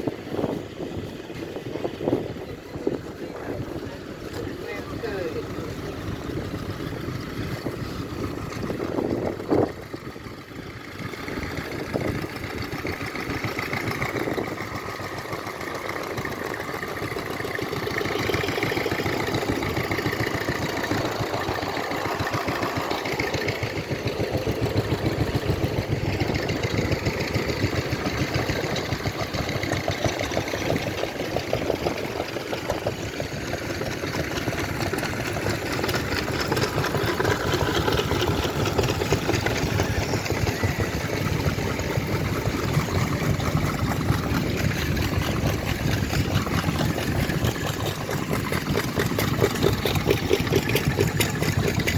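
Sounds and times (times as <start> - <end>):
engines running with rapid pulse: 0.0 - 51.9.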